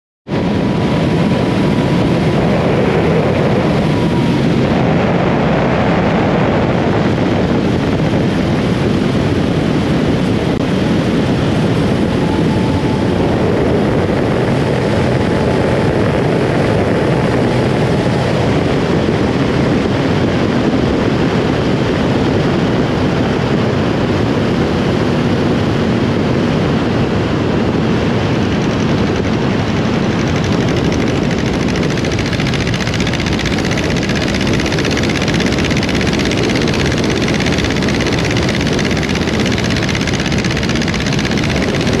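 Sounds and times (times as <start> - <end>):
light plane engine and propeller: 0.3 - 42.0
wind rushing: 0.3 - 42.0.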